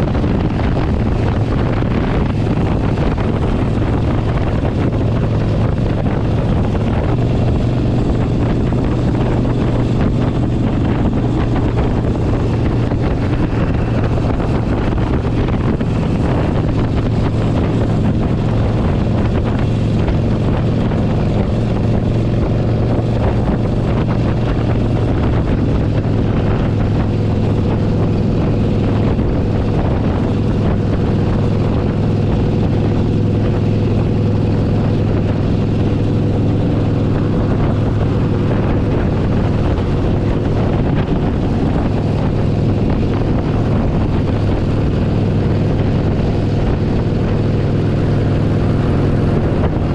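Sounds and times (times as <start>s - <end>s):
motorcycle engine running: 0.0s - 49.9s
wind buffeting microphone: 0.0s - 49.9s.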